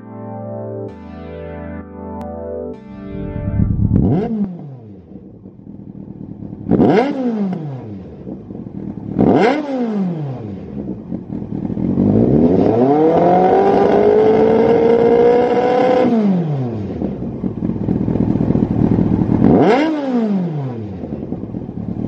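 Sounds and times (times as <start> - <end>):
motorcycle engine revving: 3.1 - 22.0.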